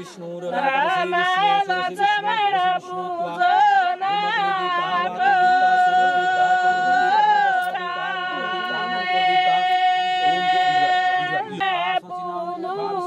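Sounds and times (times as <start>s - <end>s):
high voice singing: 0.0s - 13.0s.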